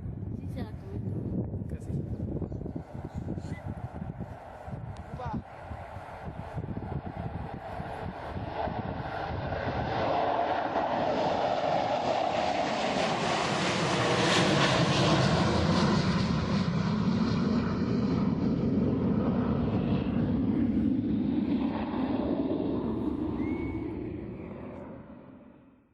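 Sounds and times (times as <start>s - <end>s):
jet engines at takeoff: 0.0s - 25.9s.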